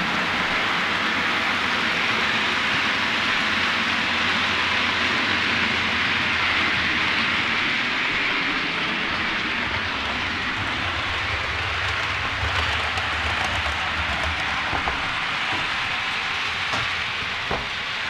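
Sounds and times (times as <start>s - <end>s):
model trains rolling on track: 0.0s - 18.0s.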